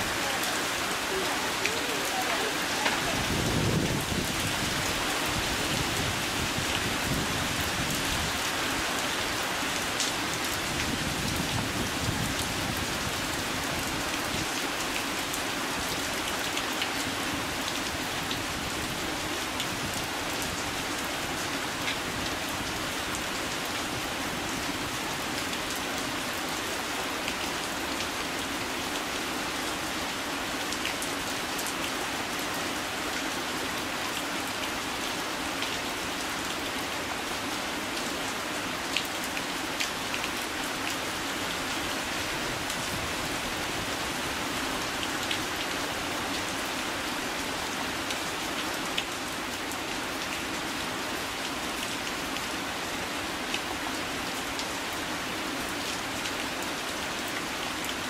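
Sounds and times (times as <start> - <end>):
heavy wind-driven rain: 0.0 - 58.0.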